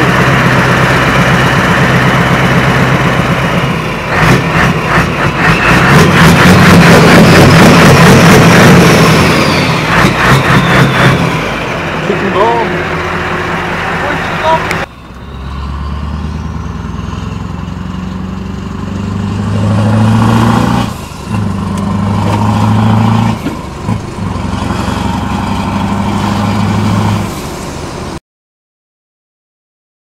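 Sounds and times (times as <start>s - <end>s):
truck engine from inside cab: 0.0s - 28.2s.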